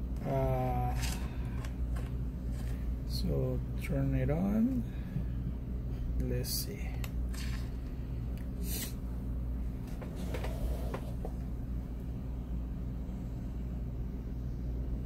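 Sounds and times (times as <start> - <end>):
laptop low hum: 0.0 - 15.0.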